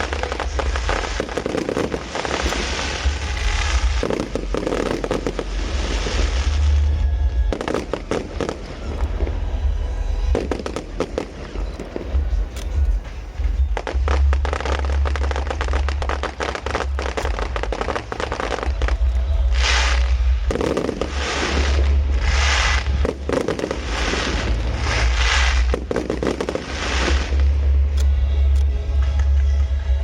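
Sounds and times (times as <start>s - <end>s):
fireworks hissing rushes: 0.0s - 28.0s
fireworks crackling: 0.0s - 30.0s
low rumble: 0.0s - 30.0s.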